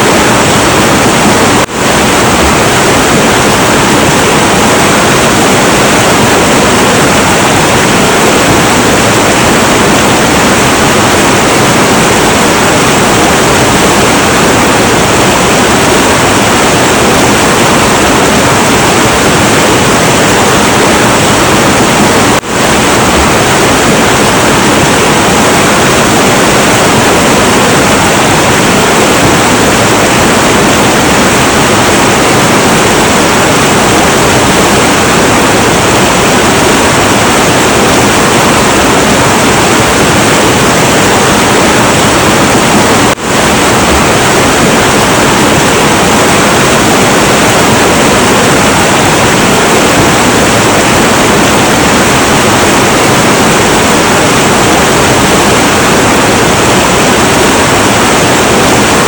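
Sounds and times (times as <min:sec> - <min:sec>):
river rushing water roar: 0:00.0 - 0:59.0.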